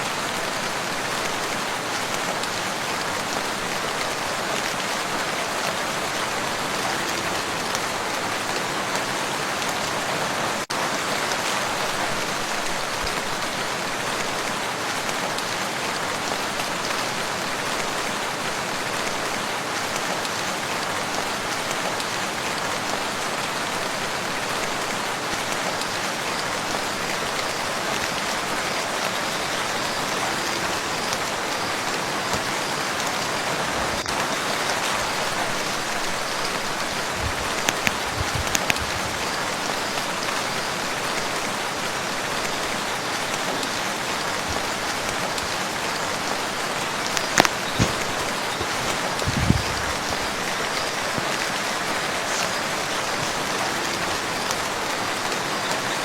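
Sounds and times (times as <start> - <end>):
rain falling on water: 0.0 - 56.0.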